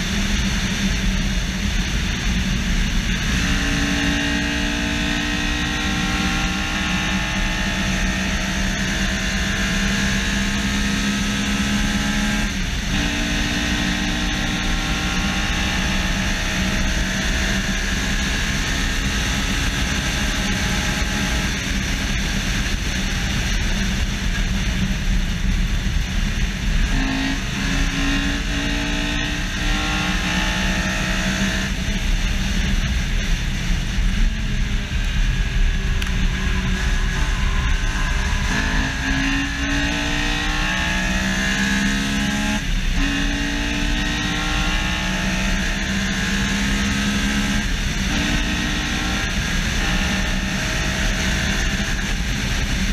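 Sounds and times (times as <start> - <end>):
car engine accelerating: 0.0 - 52.9
wind and road noise: 0.0 - 52.9.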